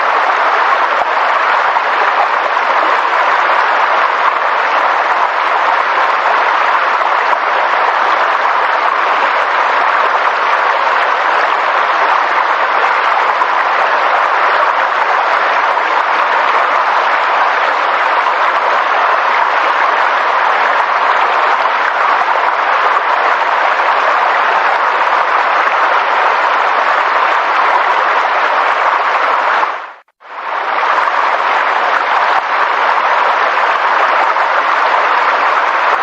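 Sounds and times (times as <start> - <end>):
water rushing: 0.0 - 36.0.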